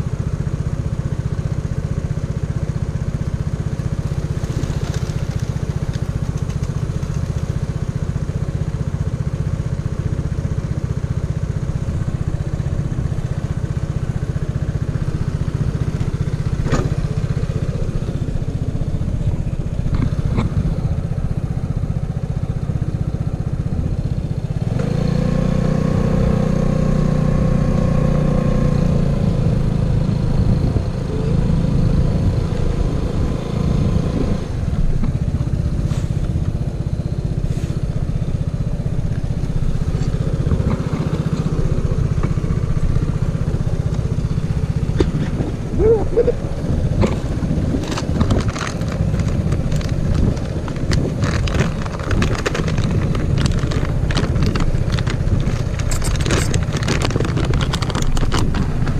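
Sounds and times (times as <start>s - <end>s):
scooter engine idling and revving: 0.0s - 58.9s.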